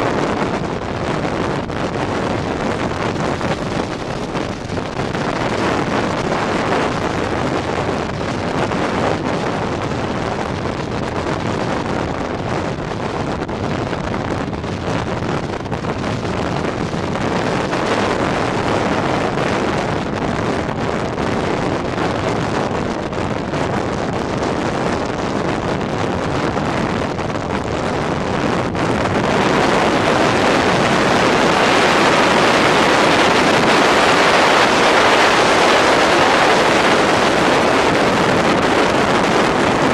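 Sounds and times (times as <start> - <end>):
motorbike road and engine noise: 0.0 - 39.9
wind rushing over microphone: 0.0 - 39.9.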